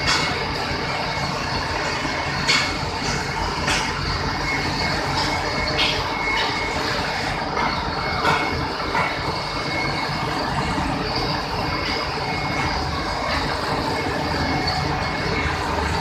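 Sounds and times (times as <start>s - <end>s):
mill machinery running: 0.0s - 16.0s.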